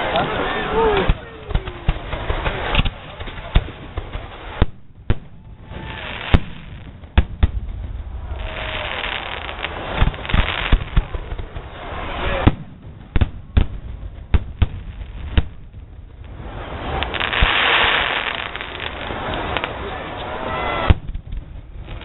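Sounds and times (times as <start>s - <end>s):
fireworks bangs: 0.0s - 22.0s
fireworks hissing: 0.0s - 22.0s.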